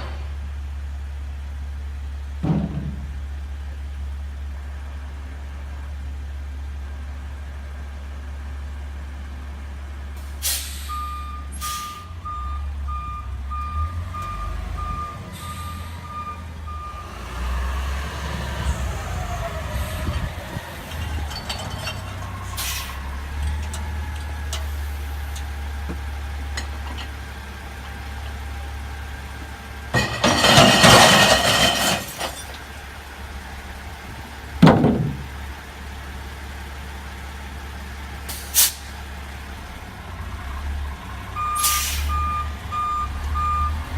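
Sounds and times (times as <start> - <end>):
truck engine humming: 0.0 - 43.9.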